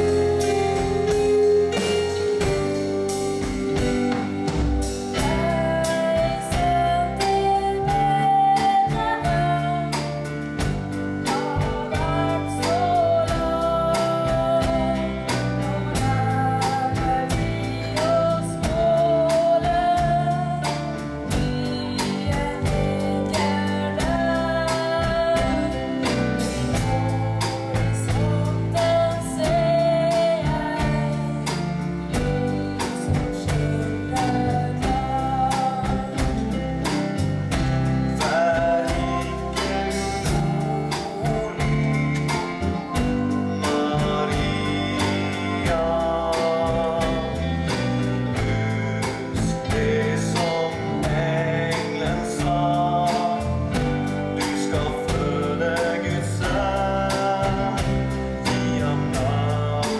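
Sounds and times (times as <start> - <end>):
strummed guitar: 0.0 - 59.9
woman singing: 4.7 - 59.9.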